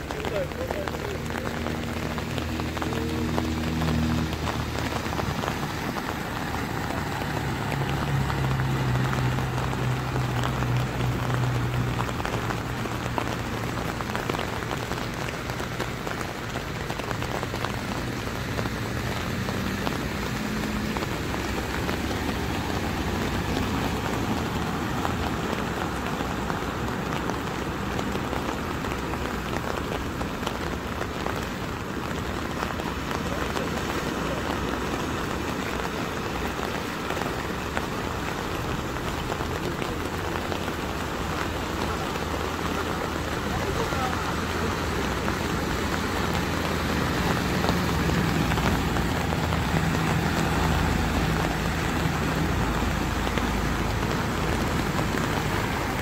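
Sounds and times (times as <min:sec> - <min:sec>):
heavy rain on flooded street: 0:00.0 - 0:56.0
low vehicle engine hum: 0:00.0 - 0:56.0.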